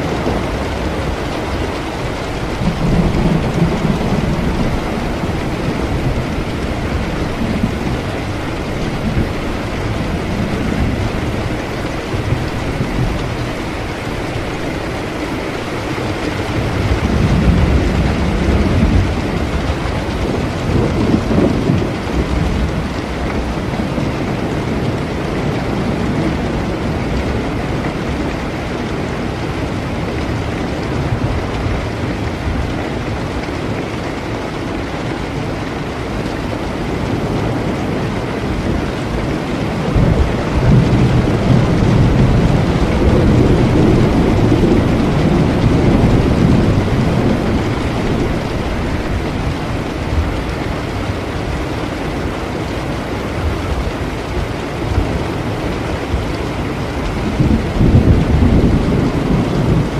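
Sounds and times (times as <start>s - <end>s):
low rumble of thunder: 0.0s - 59.9s
steady rain falling: 0.0s - 59.9s.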